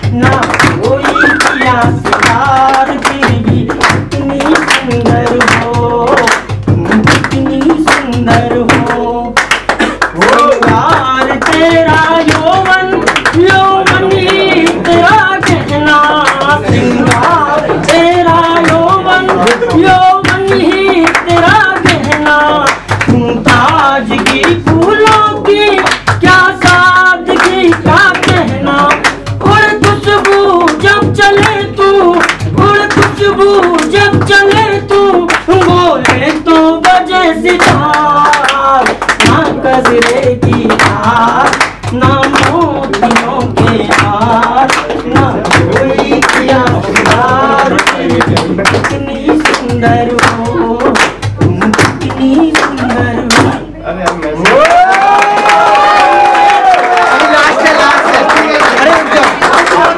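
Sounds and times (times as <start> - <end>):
man singing: 0.0 - 54.4
sharp percussive beat: 0.0 - 55.7.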